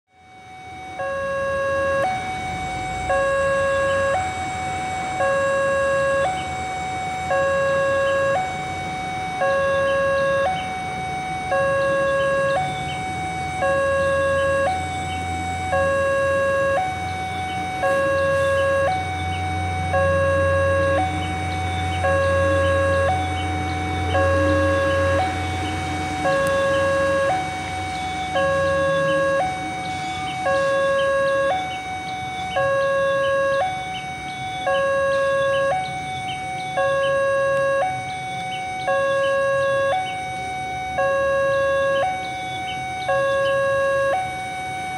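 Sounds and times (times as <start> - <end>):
two-tone electronic warning alarm: 0.1 - 44.9
low steady rumble: 0.8 - 44.9.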